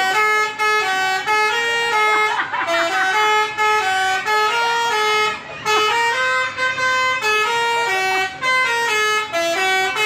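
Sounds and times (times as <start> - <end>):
multi-tone musical bus horn: 0.0 - 10.0.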